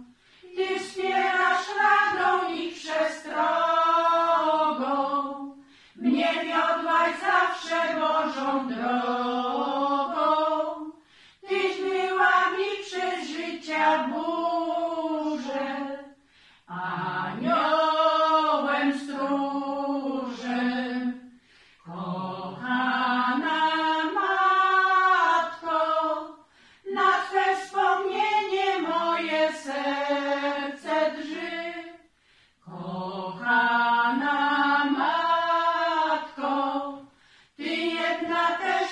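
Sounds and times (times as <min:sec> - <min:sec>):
women's choir singing a hymn: 0:00.0 - 0:38.9.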